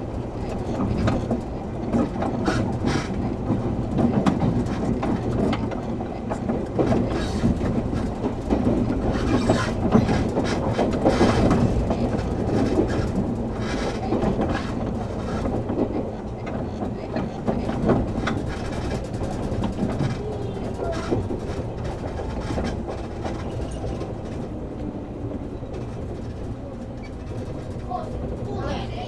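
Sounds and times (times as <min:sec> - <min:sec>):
train wheels rumbling: 0:00.0 - 0:29.0
wheels clicking over rail joints: 0:00.0 - 0:29.0.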